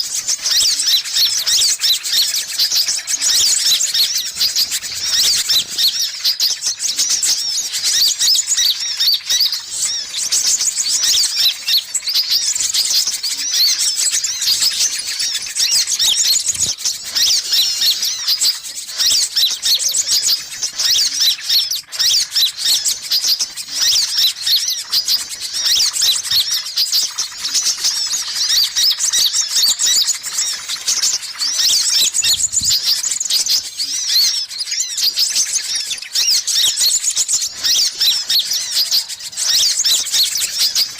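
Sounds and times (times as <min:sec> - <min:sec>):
sunbirds chirping: 0:00.0 - 0:40.9.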